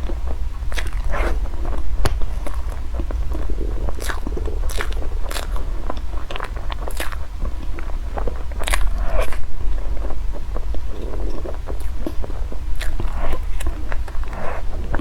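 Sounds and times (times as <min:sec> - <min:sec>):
crunchy bites: 0:00.0 - 0:15.0
person biting and chewing food: 0:00.0 - 0:15.0.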